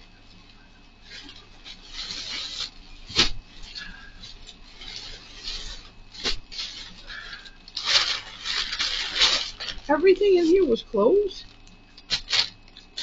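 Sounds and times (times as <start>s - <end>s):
plastic bags rustling: 0.1s - 13.0s.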